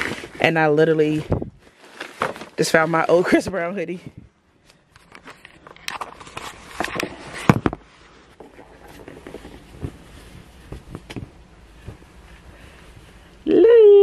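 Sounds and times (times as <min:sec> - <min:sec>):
fabric and bag rustling: 0:00.0 - 0:04.2, 0:05.1 - 0:13.3.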